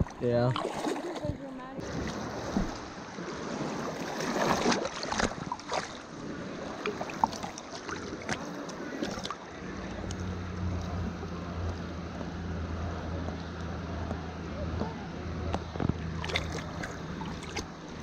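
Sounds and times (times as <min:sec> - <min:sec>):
river water splashing: 0:00.0 - 0:18.0
running water: 0:00.0 - 0:18.0.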